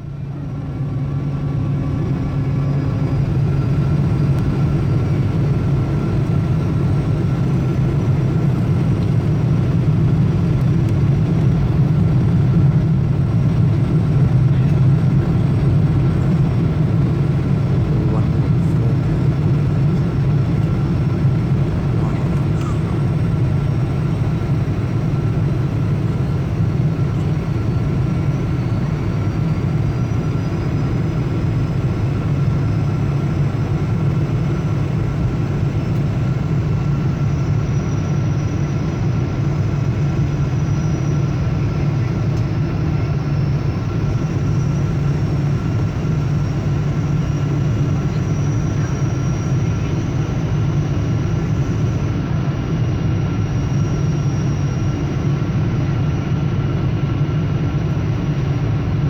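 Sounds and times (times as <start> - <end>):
airliner cabin engine rumble: 0.0 - 59.0
thin steady whine: 0.0 - 59.0.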